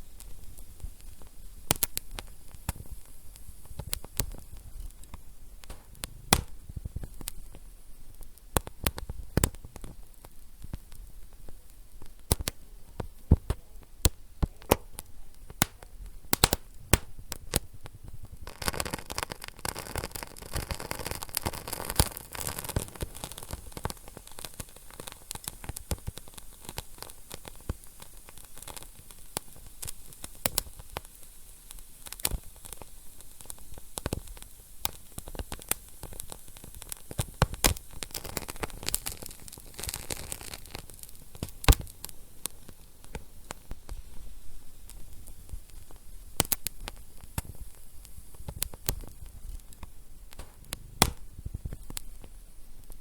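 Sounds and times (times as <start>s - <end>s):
steady hiss: 0.0s - 53.0s
wood fire crackling: 0.0s - 53.0s.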